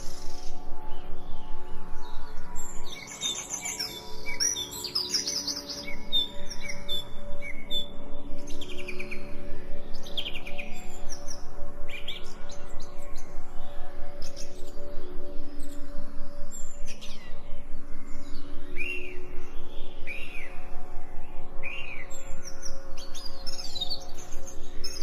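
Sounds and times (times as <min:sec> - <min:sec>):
soft background music: 0:00.0 - 0:25.0
songbirds chirping: 0:00.0 - 0:25.0.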